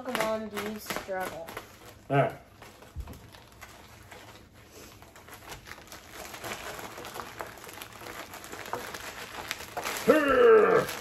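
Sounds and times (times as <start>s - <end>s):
packaging bag rustling: 0.0s - 11.0s
small clicks and crackles: 0.0s - 11.0s.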